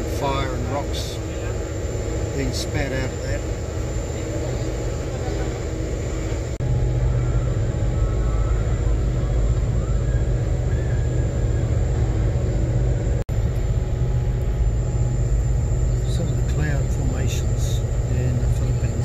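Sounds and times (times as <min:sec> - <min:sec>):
ferry engine drone: 0:00.0 - 0:19.0.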